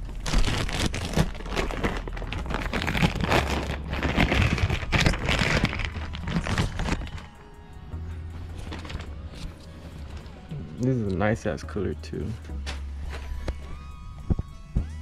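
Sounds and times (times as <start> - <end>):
crinkling handling noise: 0.0 - 7.6, 8.2 - 10.9, 12.4 - 15.0.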